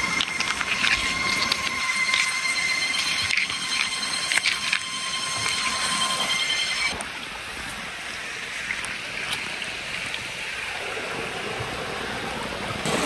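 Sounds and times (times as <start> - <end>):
stream running: 0.0 - 13.0.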